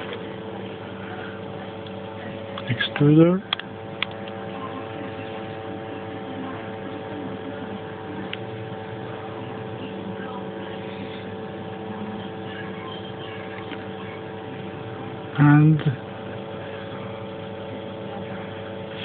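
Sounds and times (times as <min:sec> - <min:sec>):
electronics and stepper motors humming: 0:00.0 - 0:19.0.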